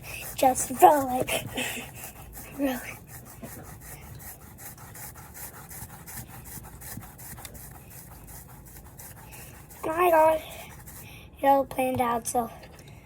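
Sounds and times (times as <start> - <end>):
hands rubbing slime: 0.0 - 11.1.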